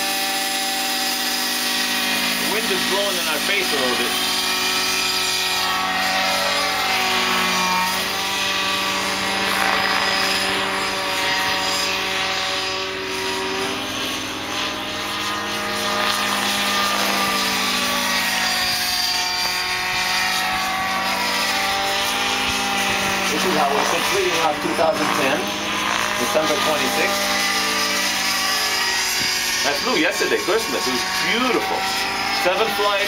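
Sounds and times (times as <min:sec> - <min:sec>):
model helicopter engine and rotor: 0:00.0 - 0:33.0.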